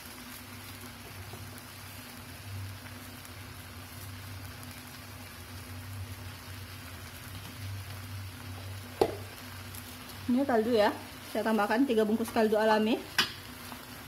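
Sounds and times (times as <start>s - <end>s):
sauce bubbling and sizzling in wok: 0.0s - 14.0s.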